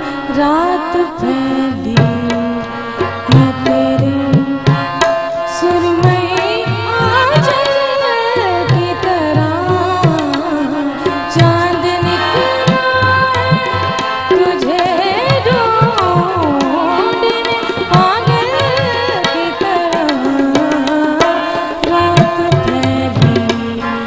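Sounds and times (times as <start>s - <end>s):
tabla rhythm: 0.0s - 24.0s.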